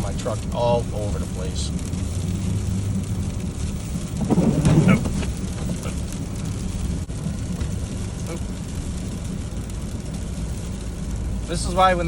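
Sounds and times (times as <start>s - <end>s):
engine and tyre rumble in cab: 0.0s - 12.0s
loud rough rumble: 0.0s - 12.0s.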